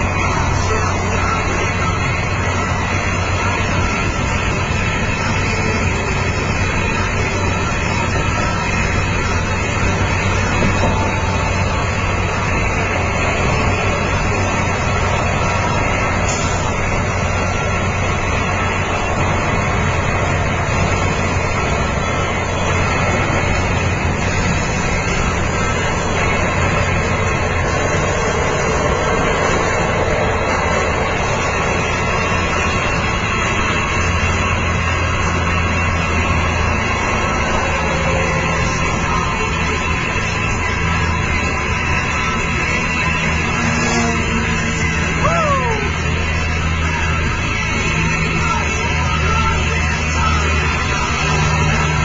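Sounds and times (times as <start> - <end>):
low engine hum: 0.0 - 52.0.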